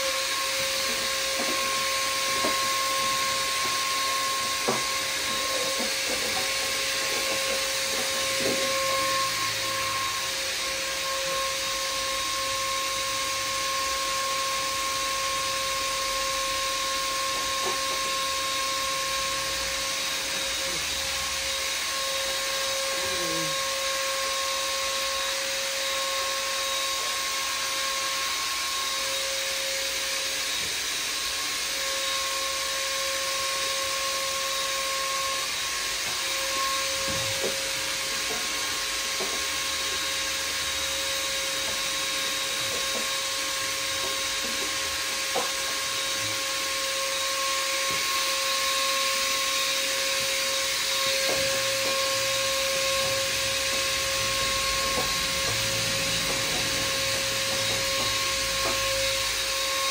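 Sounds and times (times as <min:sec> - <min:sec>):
shop vacuum running: 0:00.0 - 0:59.9.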